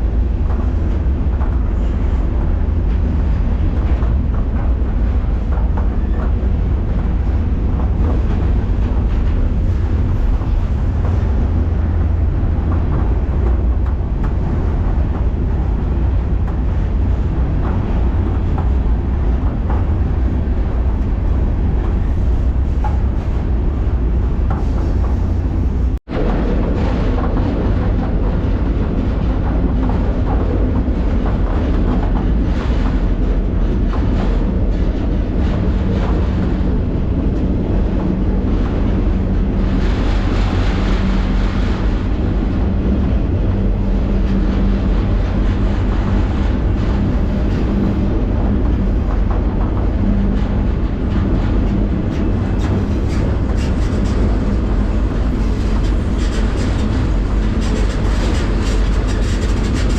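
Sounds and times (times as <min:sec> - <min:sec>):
constant low hum: 0:00.0 - 0:59.9
freight train rumbling: 0:00.0 - 0:59.9.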